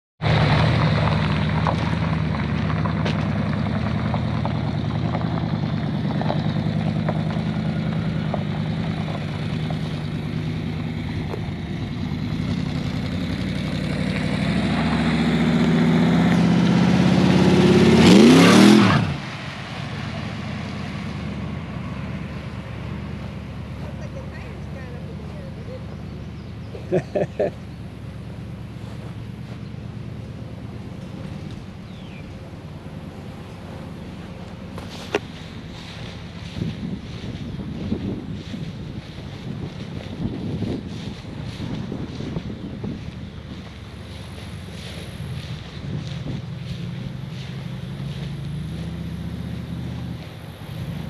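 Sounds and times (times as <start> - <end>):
car engine revving and accelerating: 0.2 - 51.0.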